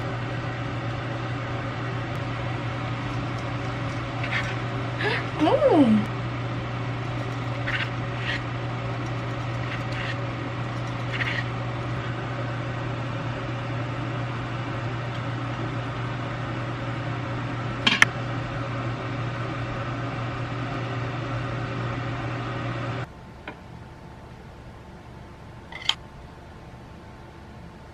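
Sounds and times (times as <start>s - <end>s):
appliance motor hum: 0.0s - 27.9s.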